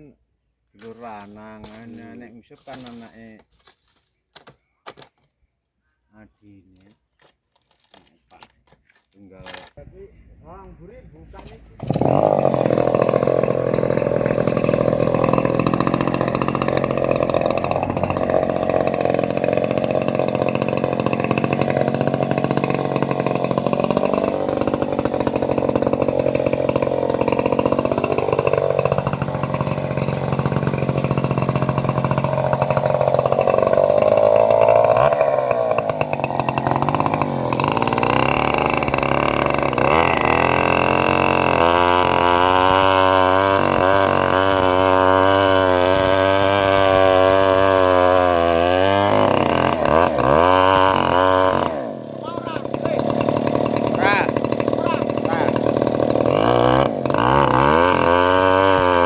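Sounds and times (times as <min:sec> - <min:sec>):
bandsaw cutting wood: 0:00.8 - 0:05.2, 0:06.8 - 0:09.8, 0:11.4 - 0:59.0.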